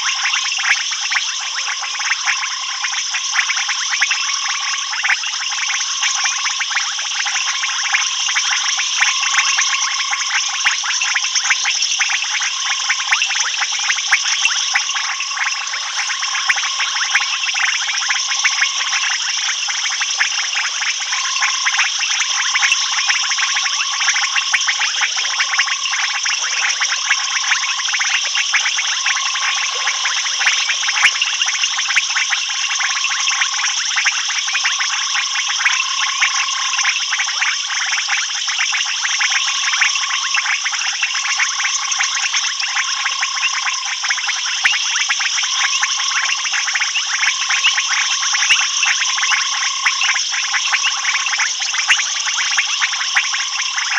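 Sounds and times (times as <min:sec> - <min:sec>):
insects trilling: 0:00.0 - 0:53.9
low piping frog call: 0:00.0 - 0:53.9.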